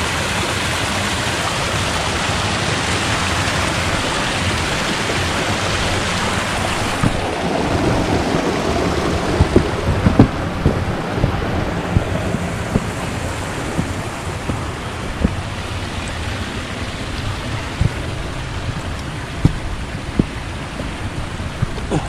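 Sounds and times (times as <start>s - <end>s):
stream water rushing: 0.0s - 22.0s
low thumps: 3.8s - 22.0s.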